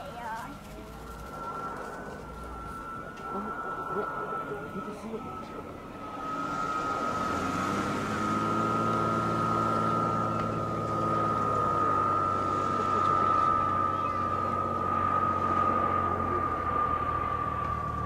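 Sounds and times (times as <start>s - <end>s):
high-pitched whine: 0.0s - 18.0s
propeller plane engine drone: 0.0s - 18.0s.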